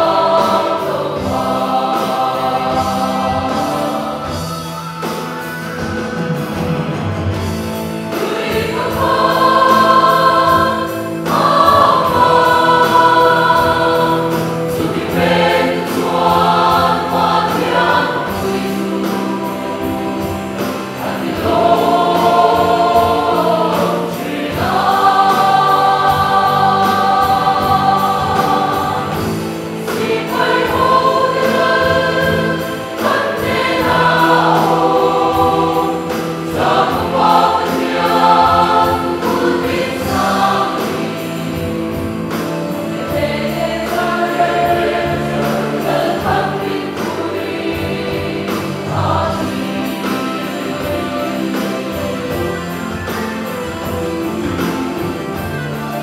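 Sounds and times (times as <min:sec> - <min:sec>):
acoustic guitar: 0:00.0 - 0:56.0
church choir singing a hymn: 0:00.0 - 0:56.0
electronic drum kit: 0:00.0 - 0:56.0
keyboard: 0:00.0 - 0:56.0.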